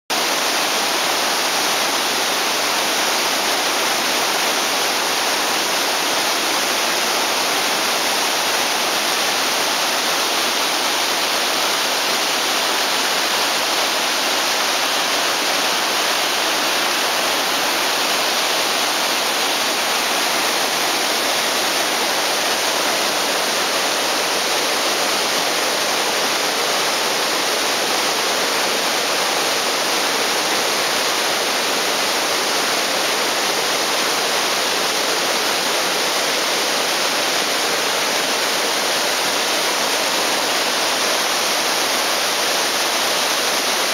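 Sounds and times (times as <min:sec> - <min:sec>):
waterfall rushing: 0:00.1 - 0:43.9.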